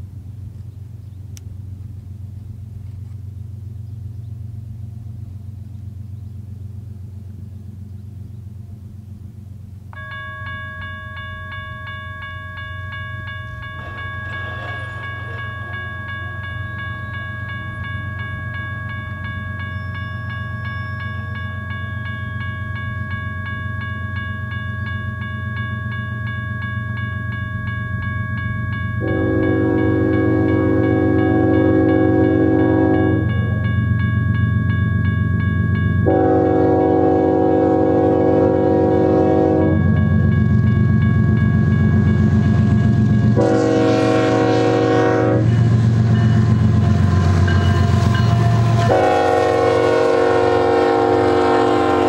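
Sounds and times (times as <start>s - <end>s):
diesel locomotives rumbling: 0.0s - 52.0s
high ringing tone: 10.0s - 52.0s.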